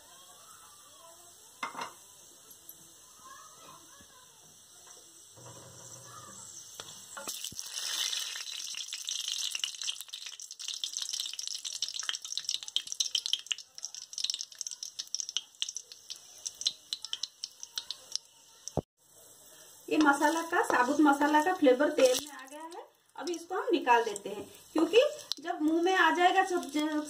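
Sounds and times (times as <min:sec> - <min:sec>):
spices sizzling in hot oil: 0:00.0 - 0:27.0.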